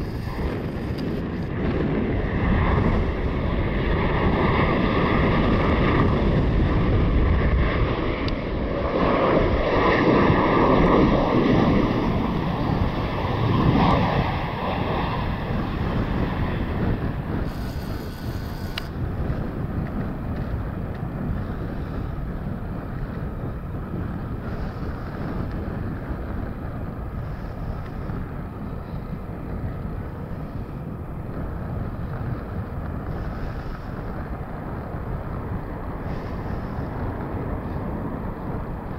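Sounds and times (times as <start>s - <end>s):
jet engines rumbling: 0.0s - 38.9s
wind on microphone: 0.0s - 38.9s.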